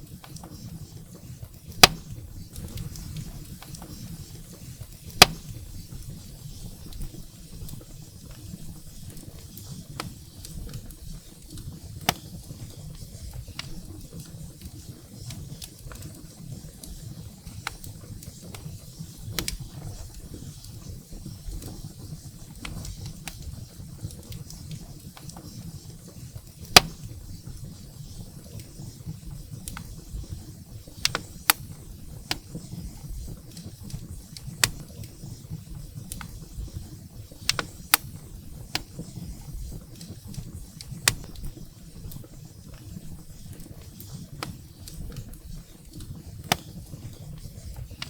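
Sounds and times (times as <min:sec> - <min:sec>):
firewood crackles and pops: 0:00.0 - 0:48.0
low rumble of flames: 0:00.0 - 0:48.0.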